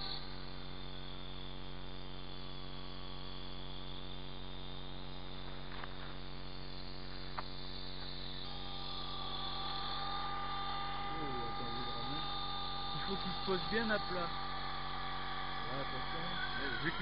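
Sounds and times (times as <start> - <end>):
higher two-tone whine: 0.0 - 17.0
model helicopter whine and hum: 0.0 - 17.0.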